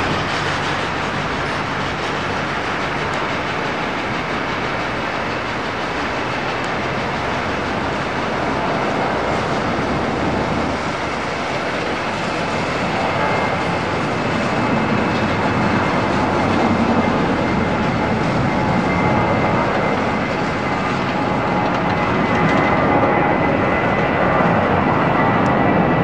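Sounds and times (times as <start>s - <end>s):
jet engine noise: 0.0s - 26.0s.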